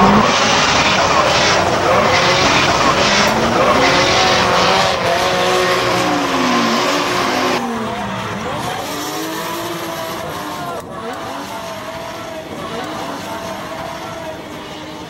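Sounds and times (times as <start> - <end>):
tyres screeching: 0.0 - 12.1
car engines revving: 0.0 - 15.0.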